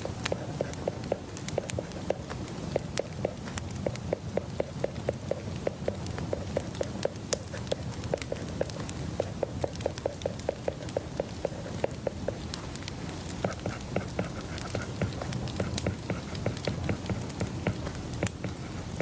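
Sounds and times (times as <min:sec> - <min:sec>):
low background hum: 0:00.0 - 0:19.0
quick light hollow taps: 0:00.1 - 0:19.0.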